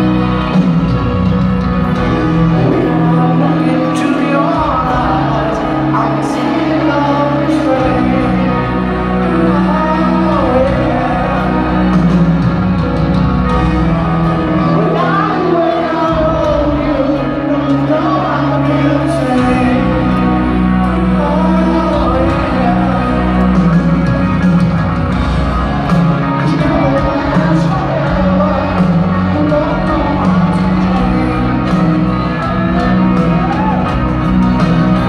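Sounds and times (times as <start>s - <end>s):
crowd shouting and cheering: 0.0s - 35.0s
live rock ballad: 0.0s - 35.0s
piano: 0.0s - 35.0s
male lead vocal: 2.2s - 35.0s.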